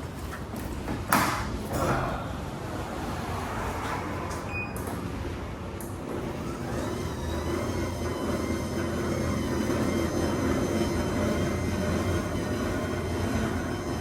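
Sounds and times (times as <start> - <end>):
garage door rumbling on tracks: 2.3 - 14.0.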